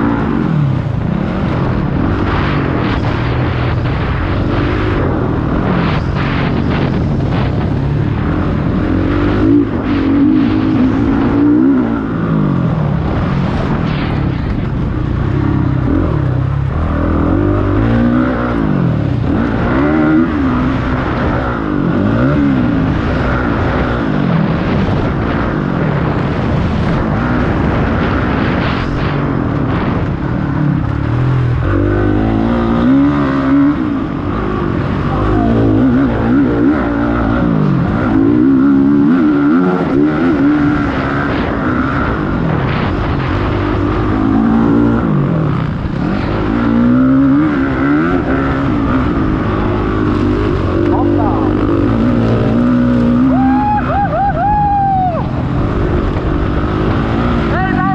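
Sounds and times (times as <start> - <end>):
motocross bike engines revving: 0.0 - 57.9.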